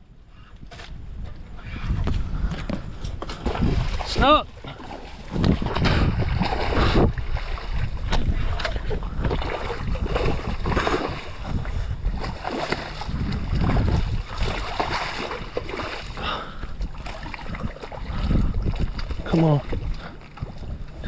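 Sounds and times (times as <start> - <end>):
wind buffeting microphone: 0.0 - 21.0
water splashing around boat: 0.6 - 21.0.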